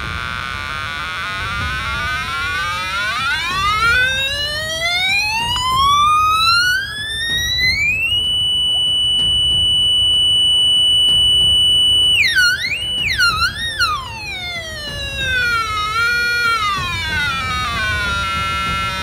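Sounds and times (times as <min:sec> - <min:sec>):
electronic tone gliding in pitch: 0:00.0 - 0:19.0.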